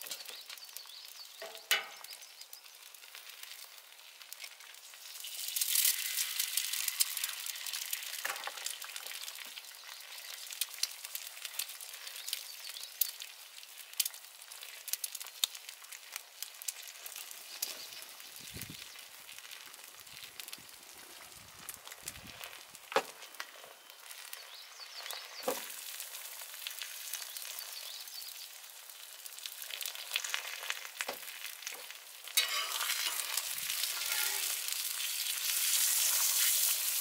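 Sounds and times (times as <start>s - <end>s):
egg sizzling on griddle: 0.0s - 37.0s
frying pops and crackles: 0.0s - 37.0s.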